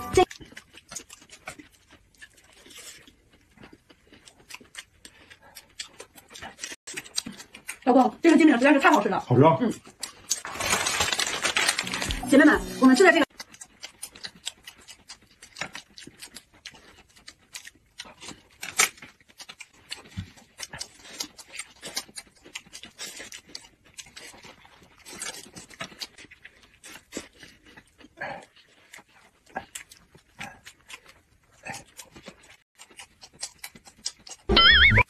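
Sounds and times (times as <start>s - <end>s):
crisp chewing crunches: 0.0s - 34.8s.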